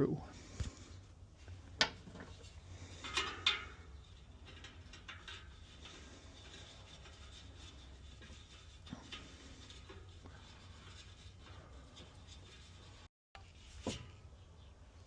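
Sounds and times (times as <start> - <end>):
tools scraping on wheel: 0.4 - 14.4.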